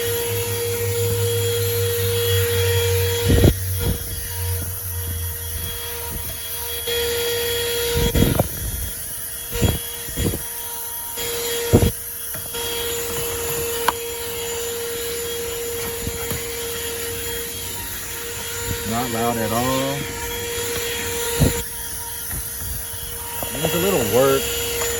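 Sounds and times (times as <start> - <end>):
handheld vacuum running: 0.0 - 24.9.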